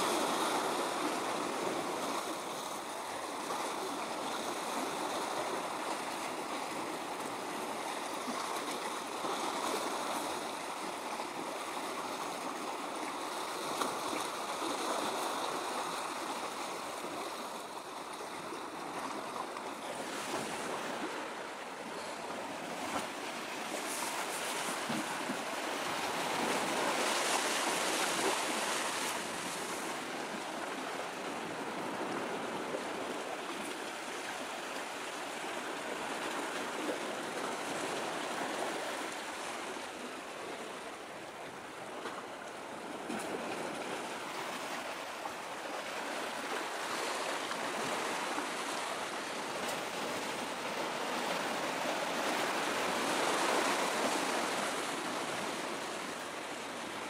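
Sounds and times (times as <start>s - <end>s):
small waves washing against shore: 0.0s - 57.0s.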